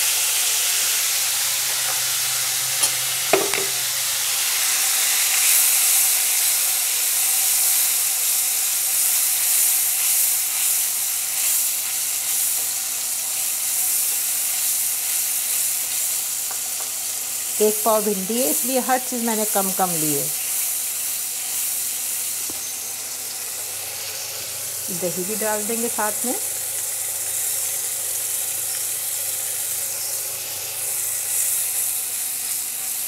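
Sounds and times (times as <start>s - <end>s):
masala sizzling in oil: 0.0s - 33.0s.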